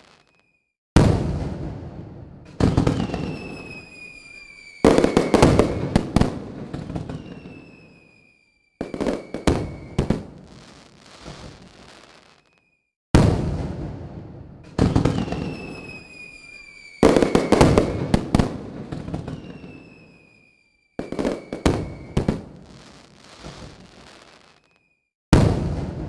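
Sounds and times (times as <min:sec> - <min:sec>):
whistling rockets: 0:00.0 - 0:01.7, 0:02.5 - 0:13.7, 0:14.6 - 0:26.0
fireworks banging and crackling: 0:00.0 - 0:26.0.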